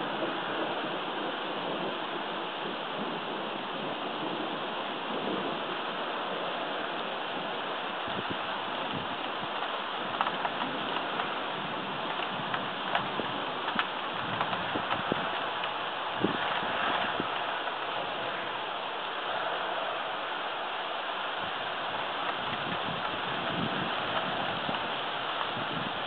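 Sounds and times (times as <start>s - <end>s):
raindrops ticking on surfaces: 0.0s - 26.0s
steady rain hiss: 0.0s - 26.0s.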